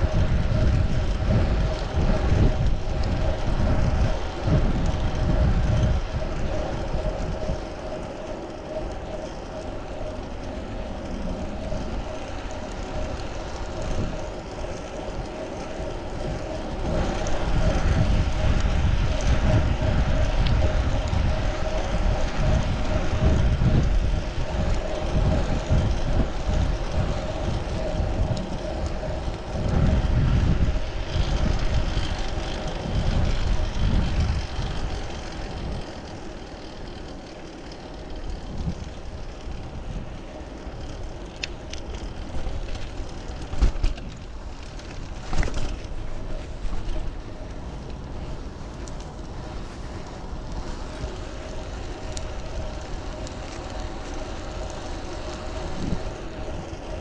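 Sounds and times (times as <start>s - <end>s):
bicycle road noise on pavement: 0.0s - 57.0s
steady hum: 0.0s - 57.0s
wind buffeting microphone: 0.0s - 57.0s.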